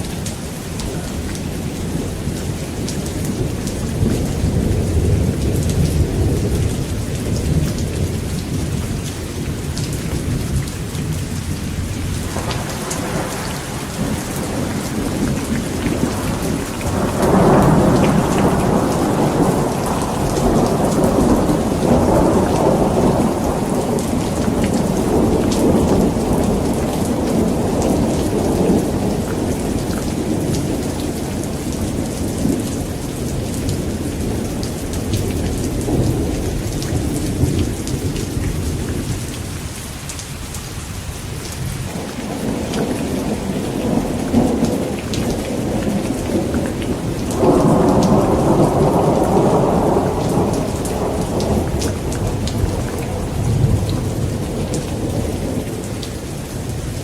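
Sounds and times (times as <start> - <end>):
heavy rain falling: 0.0 - 57.0
rolling thunder: 1.8 - 39.3, 41.7 - 57.0.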